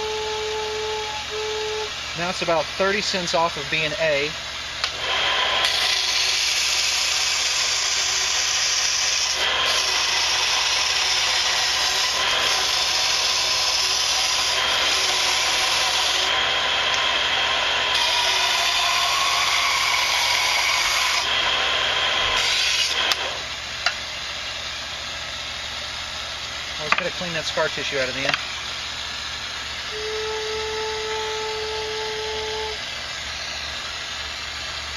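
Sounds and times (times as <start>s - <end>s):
bench power tool cutting wood: 0.0s - 24.0s, 29.4s - 34.3s.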